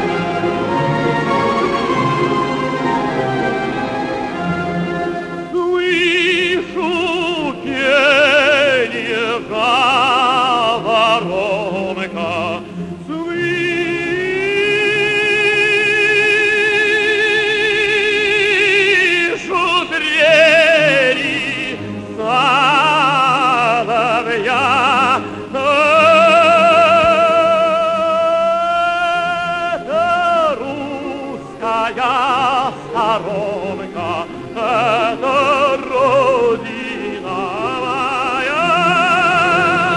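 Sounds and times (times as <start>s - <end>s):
operatic tenor singing: 0.0s - 39.9s
orchestra playing: 0.0s - 39.9s.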